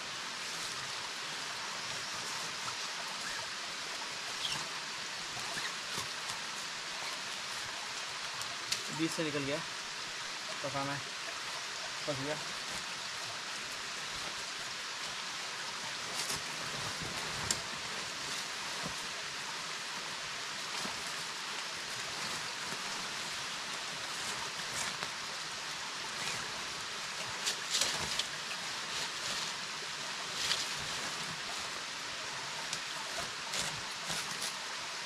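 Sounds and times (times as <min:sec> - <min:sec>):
stream and waterfall rushing: 0:00.0 - 0:35.0.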